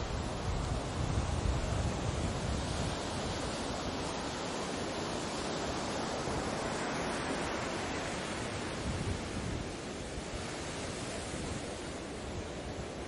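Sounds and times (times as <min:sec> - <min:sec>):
ocean surf washing on beach: 0:00.0 - 0:13.0.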